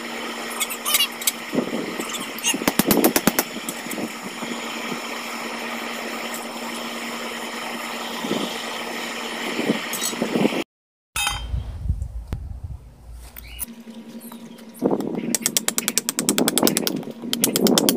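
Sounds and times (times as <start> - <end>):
small motor humming: 0.0 - 10.6, 13.3 - 17.9.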